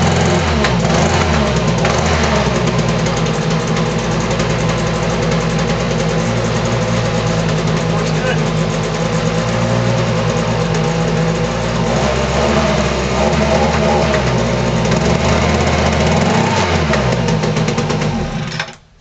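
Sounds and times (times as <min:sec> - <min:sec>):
leaf blower engine running: 0:00.0 - 0:18.7.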